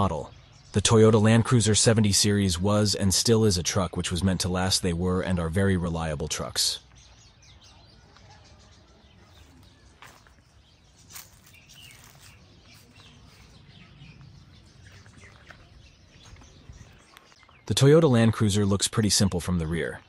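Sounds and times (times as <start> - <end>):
bird chirps: 0.0 - 20.0.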